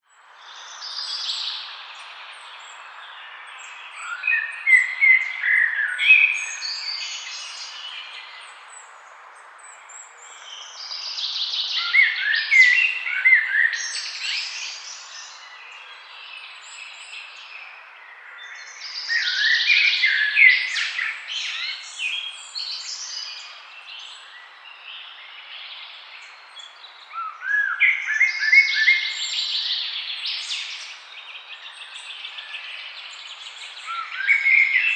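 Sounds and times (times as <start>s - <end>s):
birds singing: 0.0s - 34.9s.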